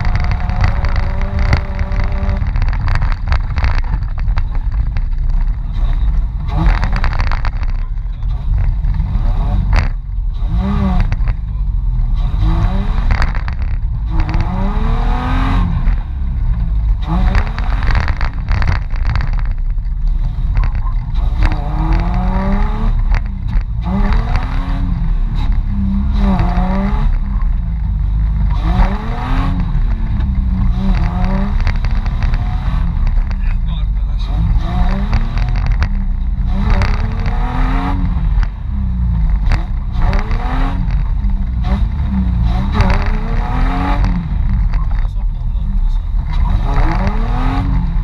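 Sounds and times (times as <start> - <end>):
engine revving up and down: 0.0 - 19.5, 20.1 - 48.0.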